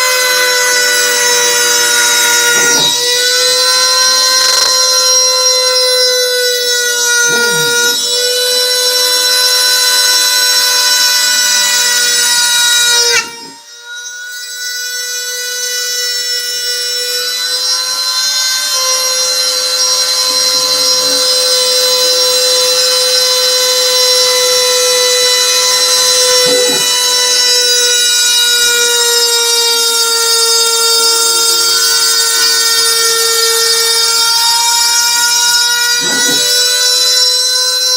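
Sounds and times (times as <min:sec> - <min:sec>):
milling machine spindle whine: 0:00.0 - 0:37.9.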